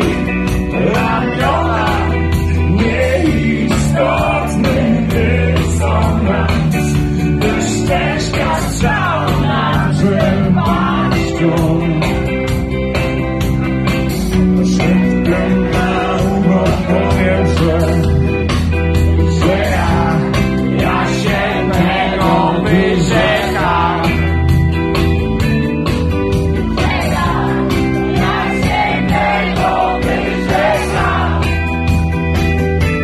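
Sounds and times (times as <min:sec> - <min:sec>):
live rock band with male singer: 0:00.0 - 0:33.0.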